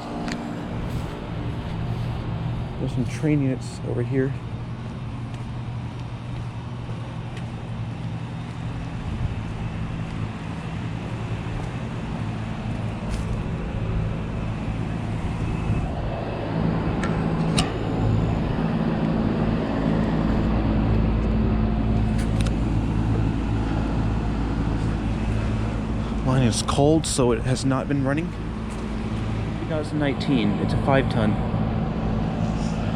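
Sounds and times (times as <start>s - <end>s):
heat pump compressor humming: 0.0s - 32.9s.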